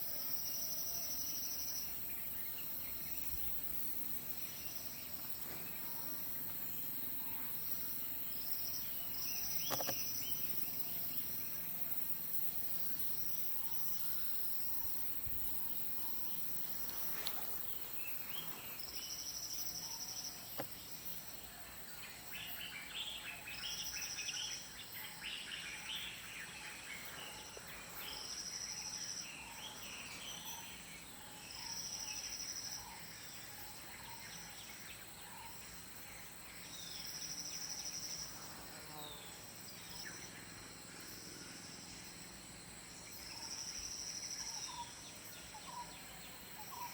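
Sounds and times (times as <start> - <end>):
insects buzzing: 0.0 - 46.9.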